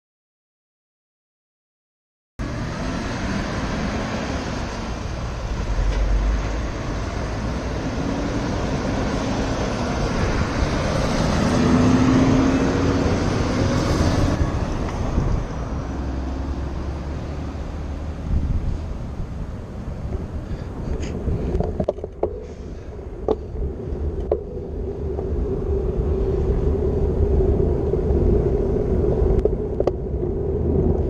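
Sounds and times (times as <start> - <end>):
traffic rumble: 2.4 - 31.0.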